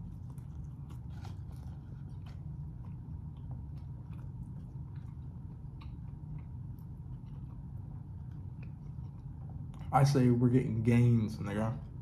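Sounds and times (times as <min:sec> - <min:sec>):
person chewing food: 0:00.0 - 0:10.3
steady low hum: 0:00.0 - 0:12.0.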